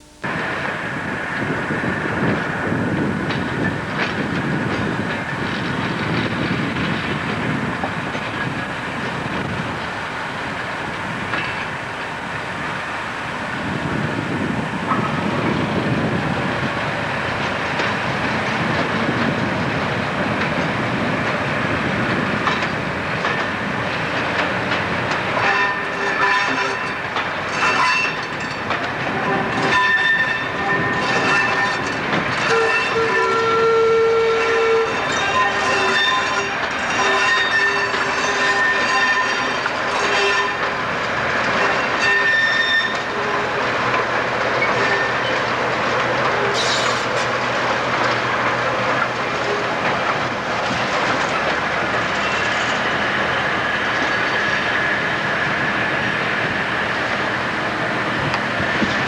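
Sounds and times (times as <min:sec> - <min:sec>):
rolling stock rumble: 0:00.0 - 0:59.0
wheels clicking over rail joints: 0:00.2 - 0:59.0.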